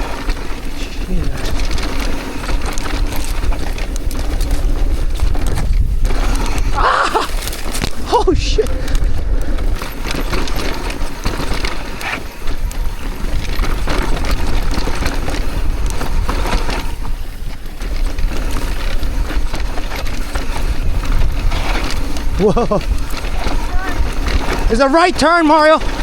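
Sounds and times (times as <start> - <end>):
bike rattling over bumps: 0.0 - 26.0
tyres crunching on dirt: 0.0 - 26.0
wind buffeting microphone: 0.0 - 26.0.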